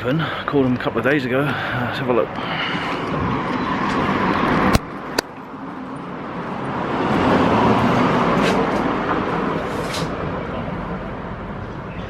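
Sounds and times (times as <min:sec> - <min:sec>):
street traffic noise: 0:00.0 - 0:12.0
vehicle passing: 0:01.5 - 0:11.9.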